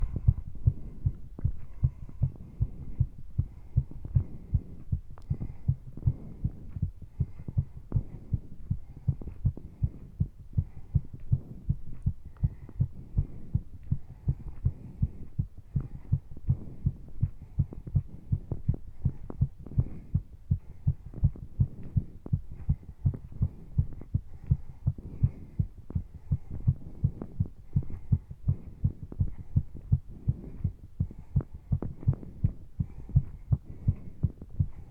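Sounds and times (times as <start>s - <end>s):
fast heartbeat pounding: 0.0s - 34.9s
person breathing: 0.0s - 34.9s.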